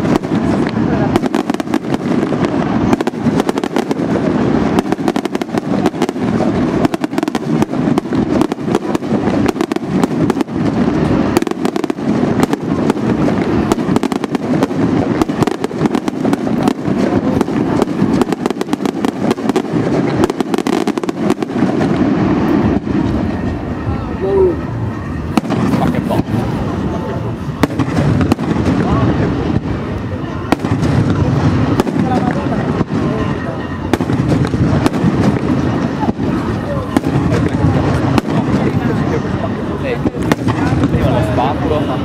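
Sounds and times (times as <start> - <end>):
fireworks bangs and crackles: 0.0 - 42.0
low rumble of explosions: 0.0 - 42.0.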